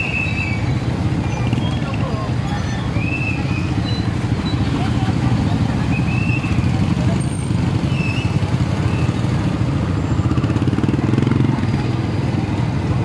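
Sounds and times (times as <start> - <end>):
scooter and motorcycle engines: 0.0 - 13.0.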